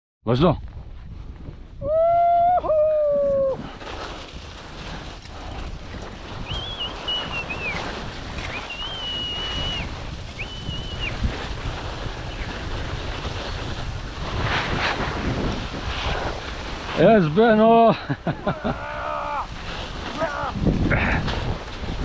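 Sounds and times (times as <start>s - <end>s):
wind buffeting microphone: 0.4s - 22.0s
rushing of snow: 1.0s - 22.0s.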